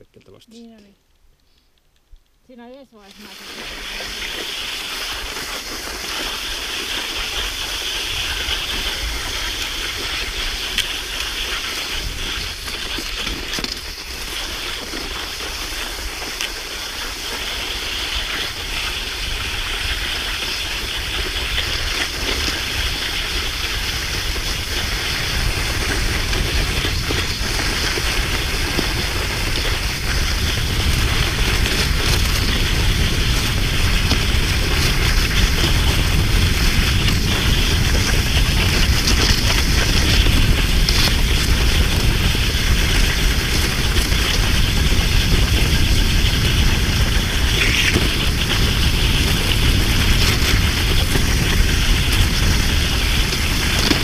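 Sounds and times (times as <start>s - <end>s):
skis hissing on snow: 2.9s - 54.0s
wind on microphone: 3.1s - 54.0s.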